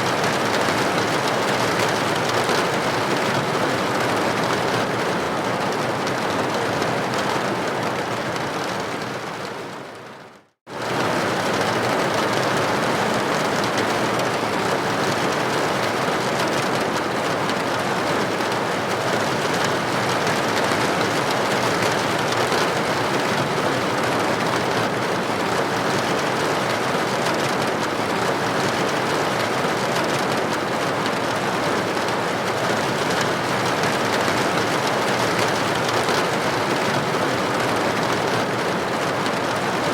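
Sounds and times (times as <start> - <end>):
rain on window: 0.0 - 39.9.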